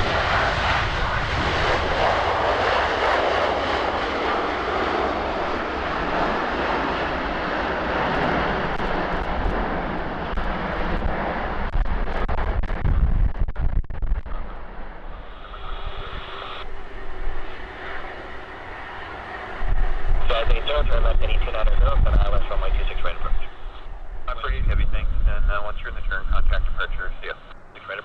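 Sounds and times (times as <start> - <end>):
low rumble: 0.0 - 27.6
jet engines roaring: 0.0 - 28.0.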